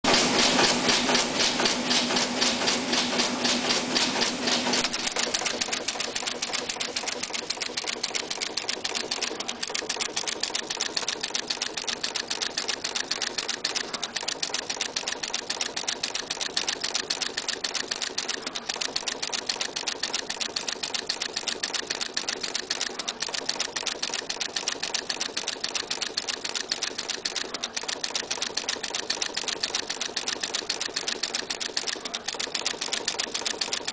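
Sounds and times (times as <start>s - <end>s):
machine mechanical clacks: 0.0s - 33.9s.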